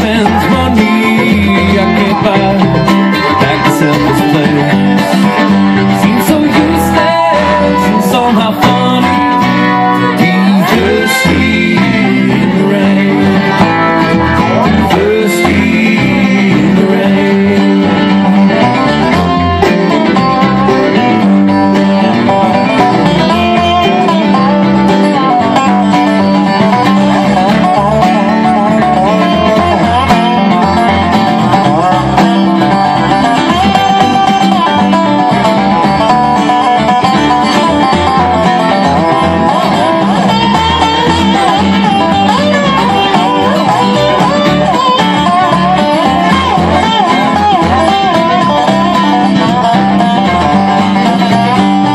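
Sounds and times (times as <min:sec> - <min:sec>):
acoustic guitar: 0:00.0 - 0:51.9
banjo: 0:00.0 - 0:51.9
dobro: 0:00.0 - 0:51.9
fiddle: 0:00.0 - 0:51.9
upright bass: 0:00.0 - 0:51.9.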